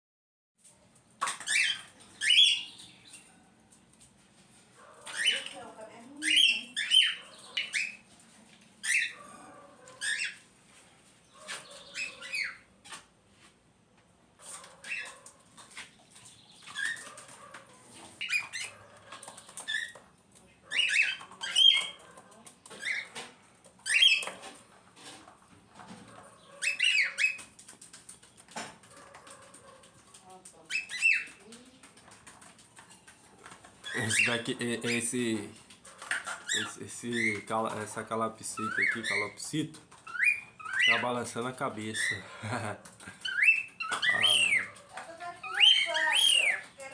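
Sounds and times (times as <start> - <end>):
cockatiels squawking and chirping: 1.2 - 3.4, 4.8 - 8.2, 8.8 - 13.0, 14.4 - 46.9.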